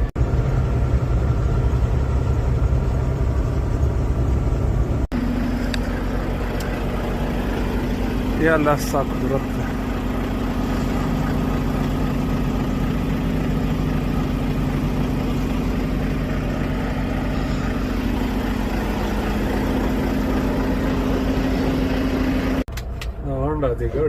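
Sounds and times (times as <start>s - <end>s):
truck engine drone in cab: 0.0s - 24.0s.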